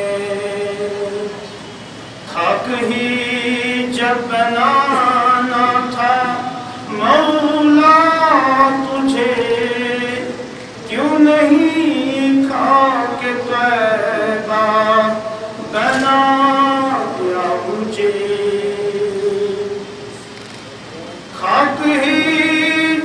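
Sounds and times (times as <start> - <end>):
man singing unaccompanied: 0.0 - 1.6, 2.2 - 20.1, 21.2 - 23.0.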